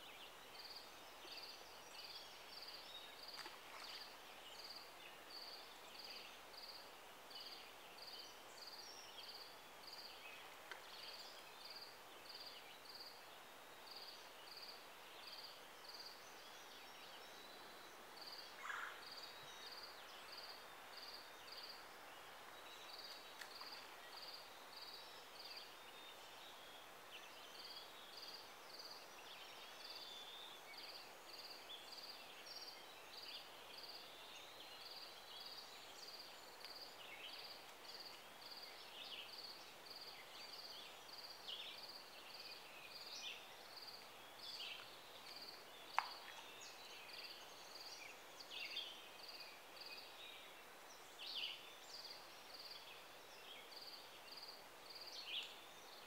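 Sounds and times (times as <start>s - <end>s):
soft background hiss: 0.0s - 56.0s.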